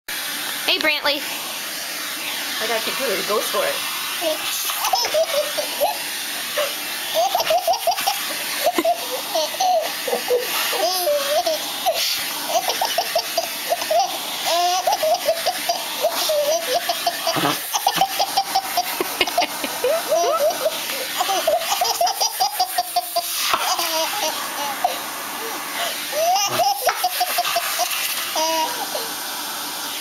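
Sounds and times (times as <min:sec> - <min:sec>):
vacuum cleaner running: 0:00.1 - 0:30.0
baby laughing: 0:04.2 - 0:29.1.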